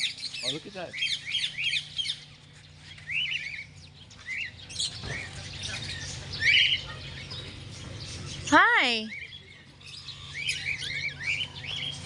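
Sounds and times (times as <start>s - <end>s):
low steady hum: 0.0s - 12.0s
parrots chirping and squawking: 0.0s - 12.0s.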